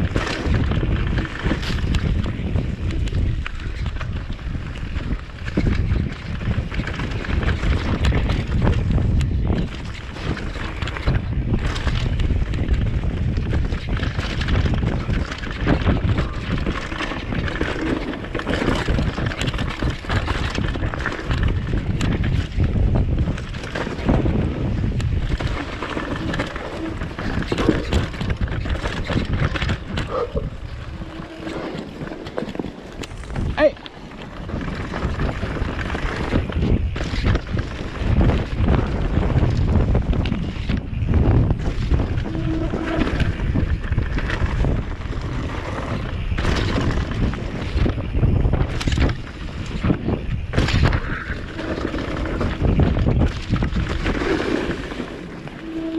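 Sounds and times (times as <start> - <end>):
bike rattling and knocking: 0.0 - 55.9
low tyre rumble: 0.0 - 55.9
wind buffeting microphone: 0.0 - 55.9.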